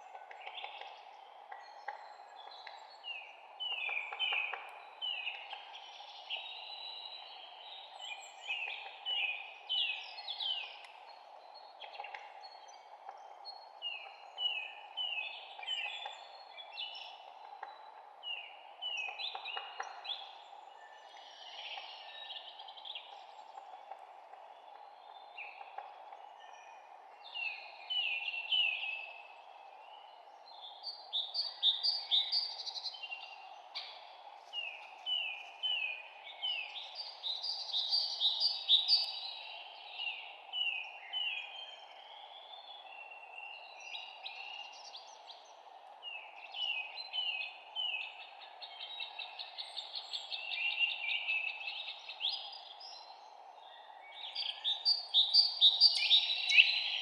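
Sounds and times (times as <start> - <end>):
songbirds singing: 0.0 - 57.0
steady low hiss: 0.0 - 57.0.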